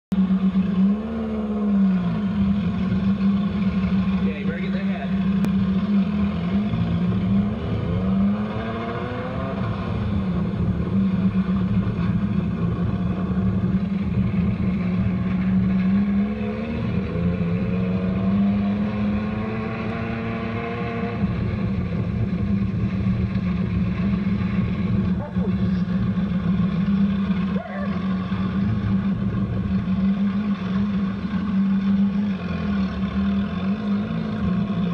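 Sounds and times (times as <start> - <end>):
dune buggy engine revving: 0.1 - 34.9.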